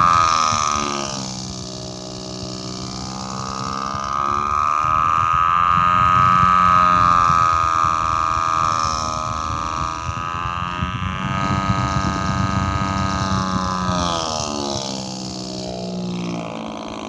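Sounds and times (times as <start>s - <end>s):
desk fan buzzing drone: 0.0s - 17.0s.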